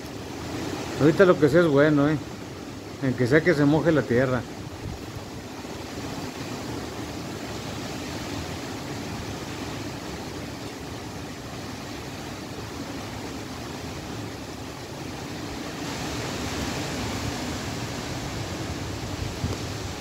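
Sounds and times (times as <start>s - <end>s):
wind blowing through trees: 0.0s - 20.0s.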